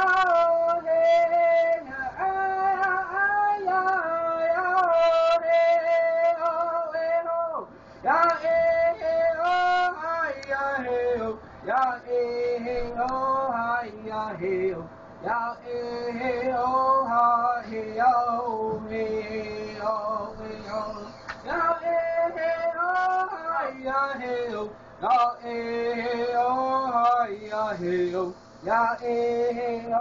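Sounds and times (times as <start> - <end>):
person singing slow melody: 0.0 - 30.0.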